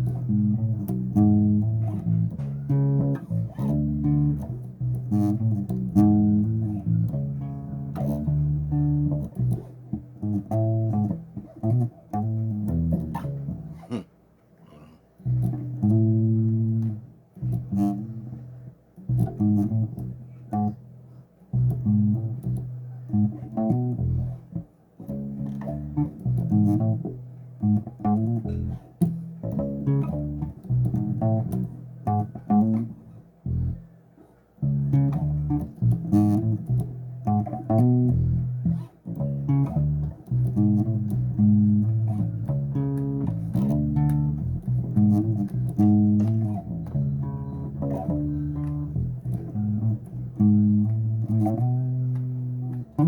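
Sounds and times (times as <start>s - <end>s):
electric bass guitar: 0.0s - 53.0s.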